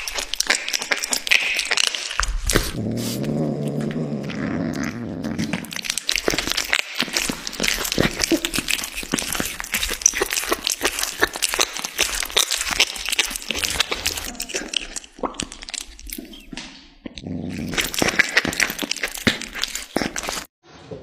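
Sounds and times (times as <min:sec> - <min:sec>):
kittens chewing raw meat: 0:00.0 - 0:20.5.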